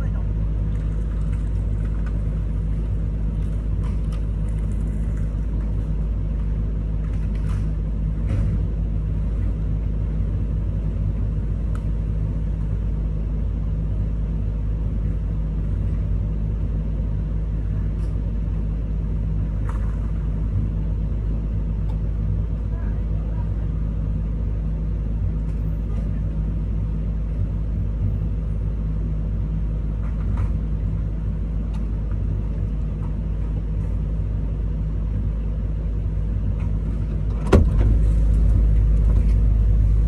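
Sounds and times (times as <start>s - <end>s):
excavator diesel engine rumbling: 0.0s - 40.0s.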